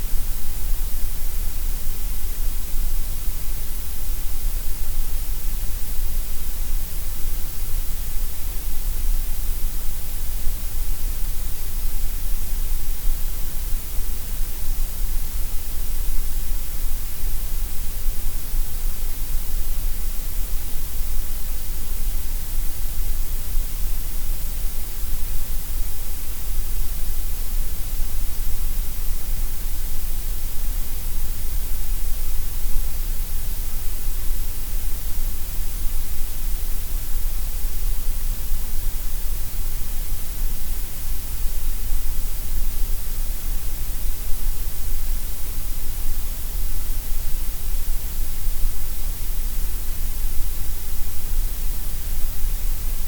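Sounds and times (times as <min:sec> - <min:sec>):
gray noise hiss: 0:00.0 - 0:53.0.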